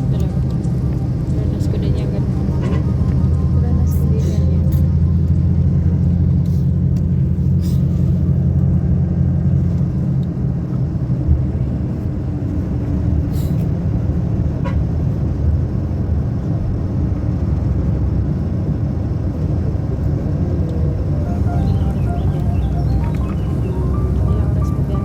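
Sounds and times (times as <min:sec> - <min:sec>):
road noise: 0:00.0 - 0:25.0
vehicle engine rumble: 0:00.0 - 0:25.0.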